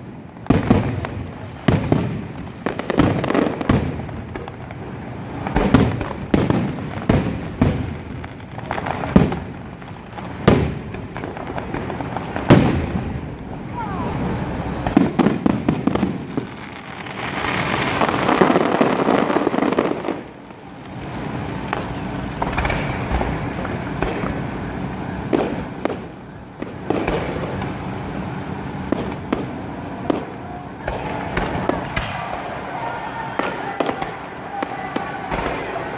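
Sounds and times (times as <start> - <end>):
fireworks crackling: 0.0 - 35.9.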